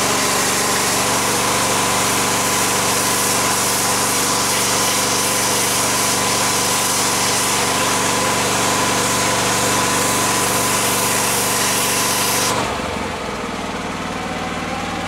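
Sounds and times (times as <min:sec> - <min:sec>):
pressure washer spray hissing: 0:00.0 - 0:12.6.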